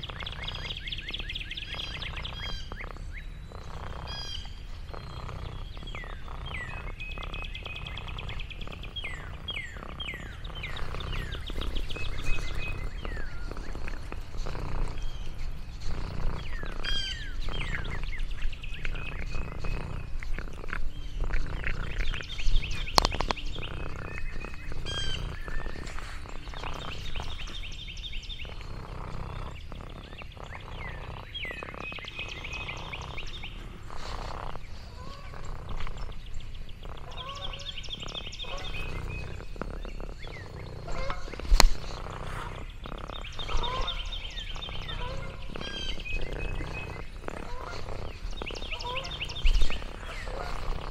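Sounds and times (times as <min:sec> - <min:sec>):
songbirds chirping and trilling: 0:00.0 - 0:50.9.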